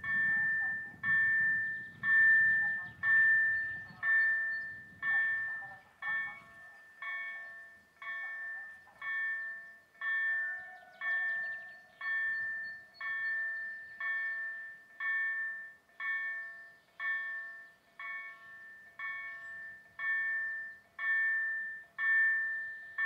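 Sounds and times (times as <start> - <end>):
level crossing warning bell ringing: 0.0 - 23.0.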